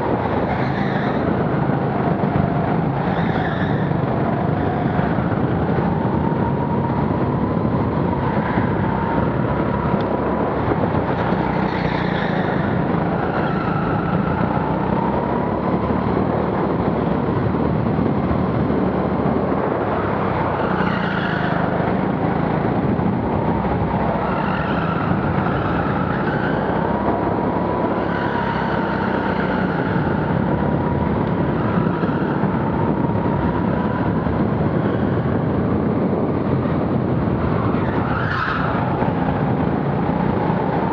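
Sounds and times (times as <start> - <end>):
go-kart motor drone and whine: 0.0 - 40.9.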